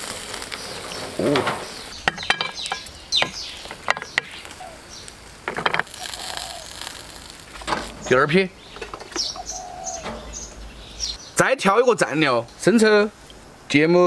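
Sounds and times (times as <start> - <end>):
faint grill sizzle: 0.0 - 14.0.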